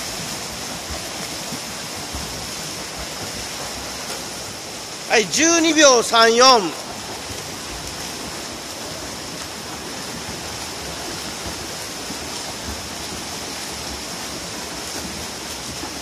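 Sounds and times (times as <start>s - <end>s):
swimmers splashing water: 0.0s - 16.0s.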